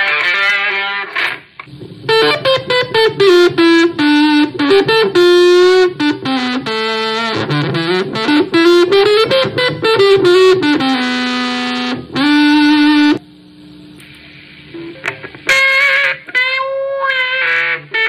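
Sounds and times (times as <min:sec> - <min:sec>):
electric guitar with fuzz: 0:00.0 - 0:18.0.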